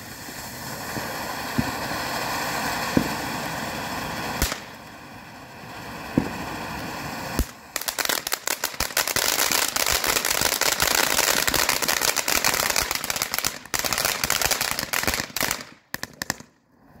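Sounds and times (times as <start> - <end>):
firework crackles and pops: 0.0 - 17.0
firework spray hissing: 0.0 - 17.0.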